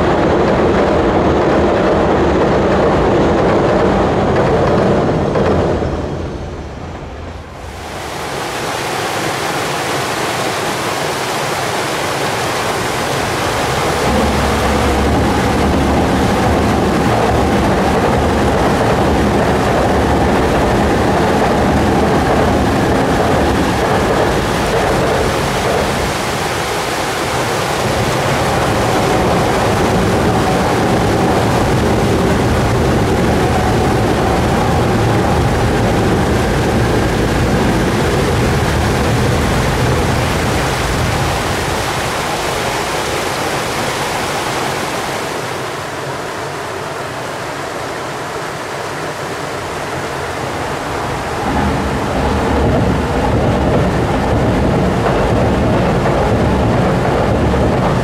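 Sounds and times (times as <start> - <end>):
train rumbling over bridge: 0.0 - 58.0
water rushing over weir: 0.0 - 58.0.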